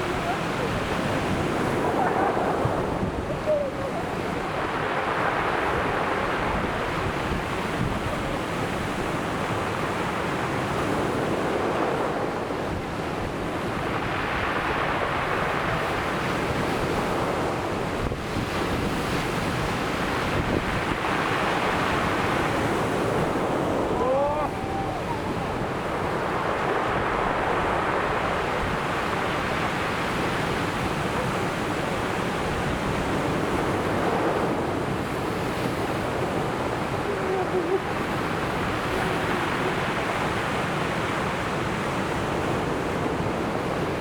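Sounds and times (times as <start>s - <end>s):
ocean waves breaking: 0.0s - 44.0s
wind on microphone: 0.0s - 44.0s.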